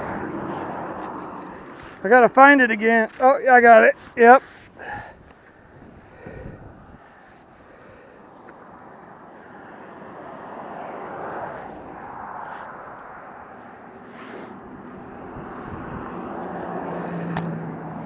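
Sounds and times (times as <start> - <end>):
vehicle passing: 0.0 - 18.0.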